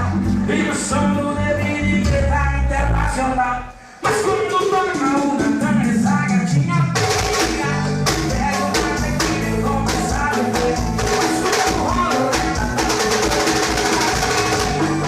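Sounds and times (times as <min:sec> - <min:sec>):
band music with steady beat: 0:00.0 - 0:15.0.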